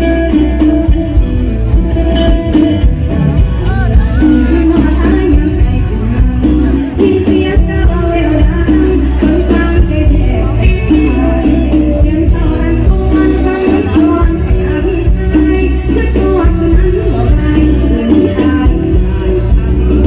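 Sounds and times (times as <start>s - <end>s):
live band dance beat: 0.0s - 20.0s
woman singing into microphone: 2.1s - 20.0s.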